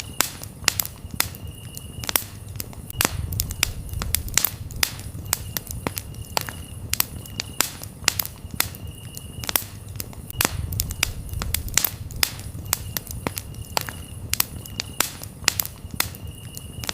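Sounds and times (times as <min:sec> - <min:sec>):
campfire crackling and popping: 0:00.0 - 0:16.9
crickets chirping: 0:00.0 - 0:16.9.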